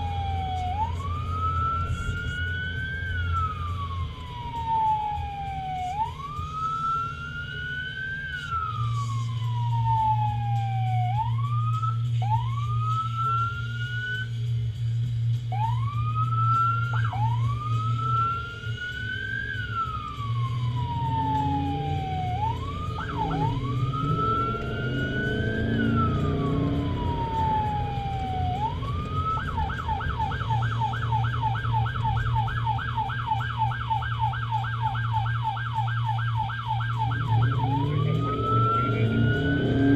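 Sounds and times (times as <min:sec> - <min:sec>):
emergency siren wailing and yelping: 0:00.0 - 0:14.4, 0:15.4 - 0:39.9
low engine and road hum: 0:00.0 - 0:39.9.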